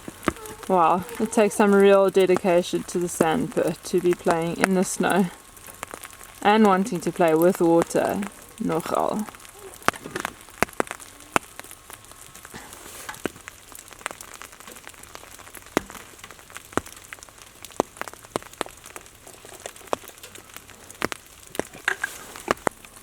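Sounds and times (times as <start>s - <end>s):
wet snow and drips pattering: 0.0s - 23.0s.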